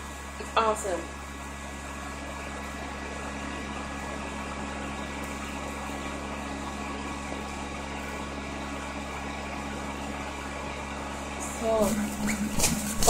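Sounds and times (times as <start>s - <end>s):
electric blower fan humming: 0.0s - 13.0s.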